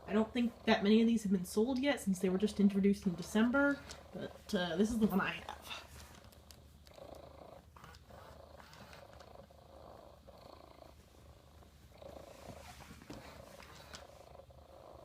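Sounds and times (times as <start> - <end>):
robotic cat purring: 0.0 - 15.0.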